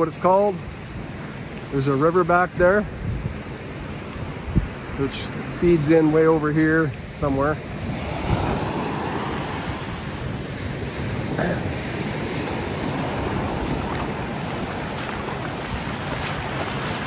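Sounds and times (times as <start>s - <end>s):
ocean surf washing onto beach: 0.0s - 17.0s
wind buffeting microphone: 2.4s - 17.0s.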